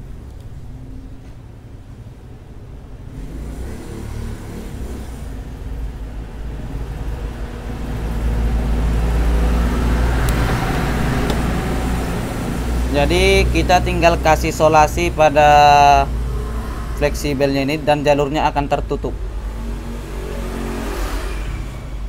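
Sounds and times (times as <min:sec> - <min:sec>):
motor vehicle passing: 0:03.0 - 0:22.0.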